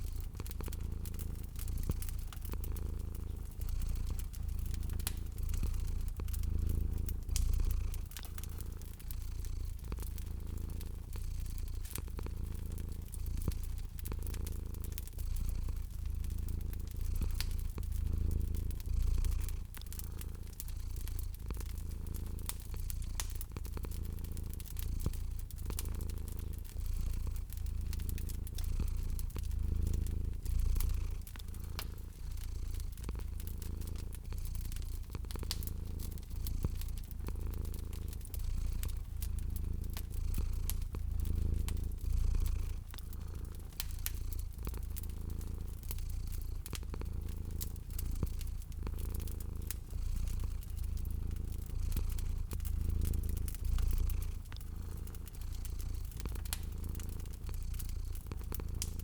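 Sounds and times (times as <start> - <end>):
cat purring: 0.0 - 59.0
wood fire crackling: 0.0 - 59.0.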